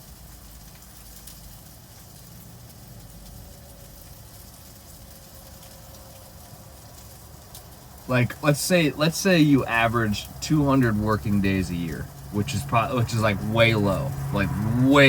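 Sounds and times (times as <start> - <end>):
faint crackling hiss: 0.0 - 15.0.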